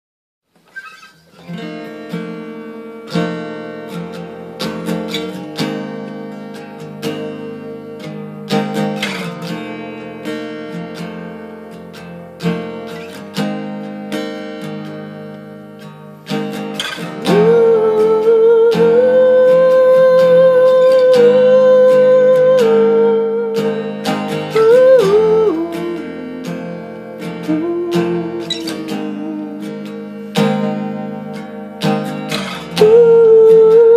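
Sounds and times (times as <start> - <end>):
acoustic guitar picking: 0.5 - 33.9.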